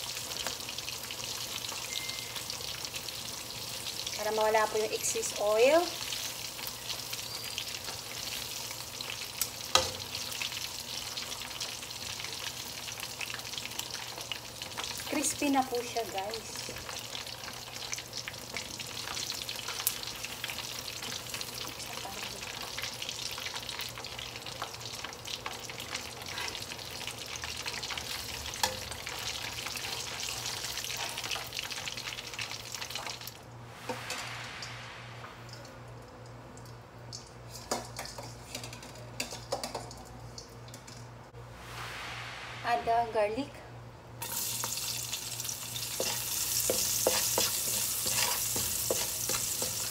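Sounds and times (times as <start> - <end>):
chicken deep-frying in oil: 0.0 - 42.8, 44.2 - 49.9.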